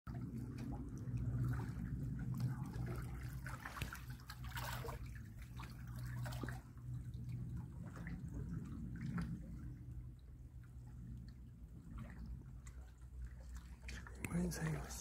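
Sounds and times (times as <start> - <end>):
steady low hum: 0.1 - 15.0
water splashes and drips: 0.1 - 15.0
waves lapping against rocks: 0.1 - 15.0.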